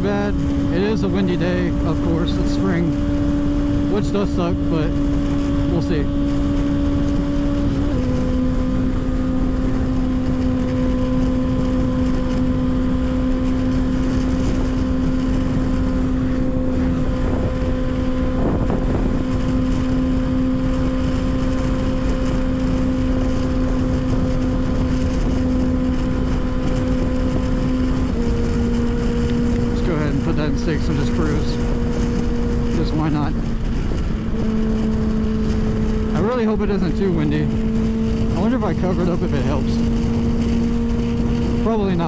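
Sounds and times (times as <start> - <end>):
motorcycle engine cruising: 0.0 - 42.0
wind buffeting microphone: 0.0 - 42.0.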